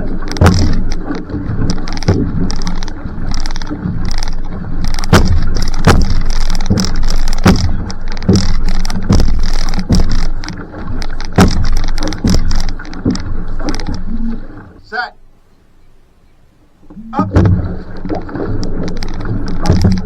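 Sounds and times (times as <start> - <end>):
paddle strokes in water: 0.0 - 14.8, 16.3 - 20.0
rush of water: 0.0 - 15.1, 16.0 - 20.0.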